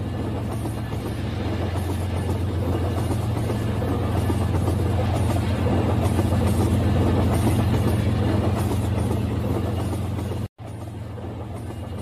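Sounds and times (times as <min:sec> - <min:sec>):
train wheels rattling on track: 0:00.0 - 0:12.0.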